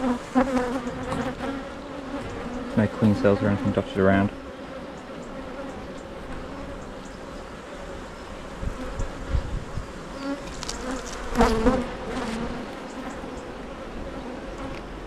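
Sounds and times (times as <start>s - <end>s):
bees humming: 0.0s - 15.0s
loud bee buzz: 0.0s - 15.0s.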